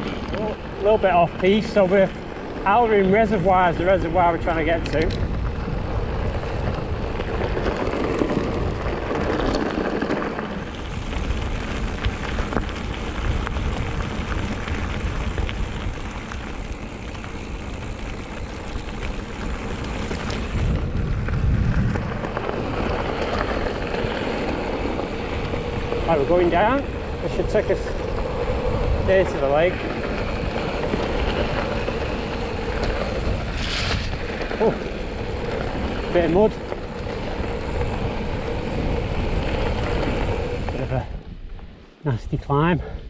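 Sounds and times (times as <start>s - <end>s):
bike tyres crunching on gravel: 0.0s - 42.8s.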